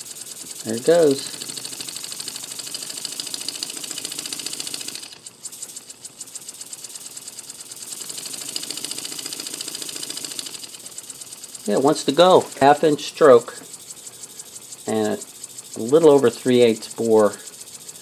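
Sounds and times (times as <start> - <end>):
small steam engine ticking: 0.0 - 18.0.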